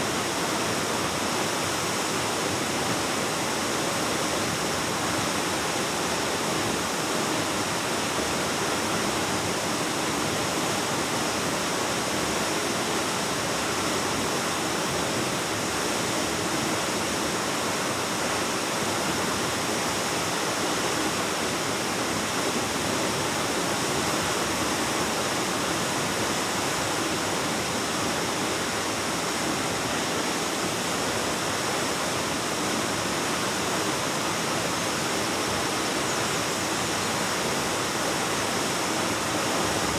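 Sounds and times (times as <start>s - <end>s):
waterfall echoing in a cave: 0.0s - 39.9s.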